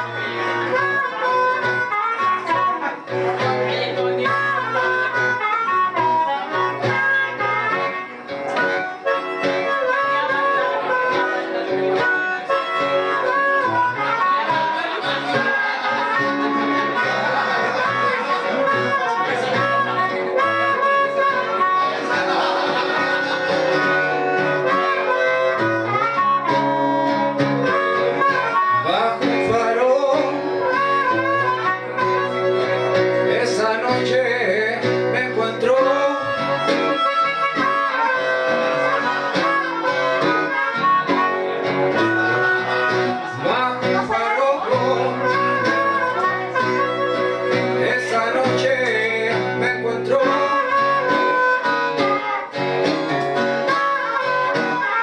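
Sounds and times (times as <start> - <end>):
acoustic guitar strumming: 0.0 - 55.0
harmonica playing blues: 0.0 - 55.0.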